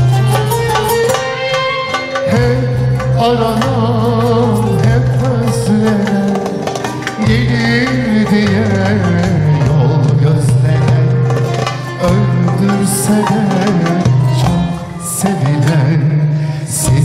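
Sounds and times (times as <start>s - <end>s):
live instrumental accompaniment: 0.0s - 17.0s
man singing: 0.0s - 17.0s.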